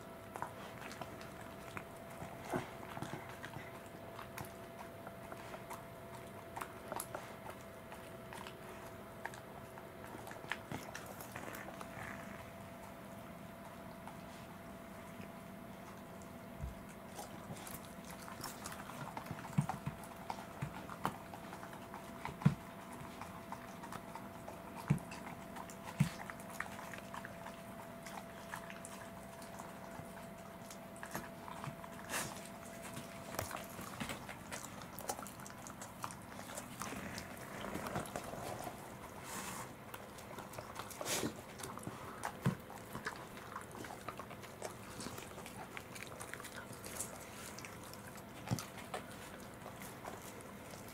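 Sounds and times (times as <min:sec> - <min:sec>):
dogs licking and chewing: 0:00.0 - 0:50.9.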